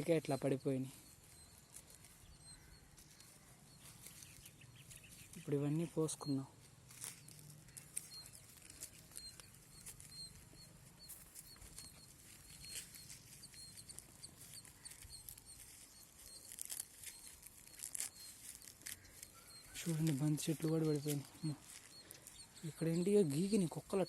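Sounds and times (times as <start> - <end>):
rustling leaves and stalks: 0.0 - 24.0.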